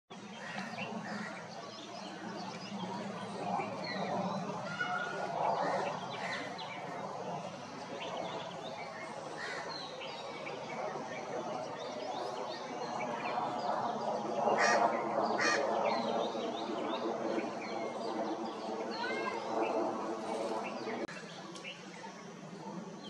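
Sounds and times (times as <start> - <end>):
small birds chirping: 0.1 - 23.0
harsh bird calls: 0.2 - 21.8.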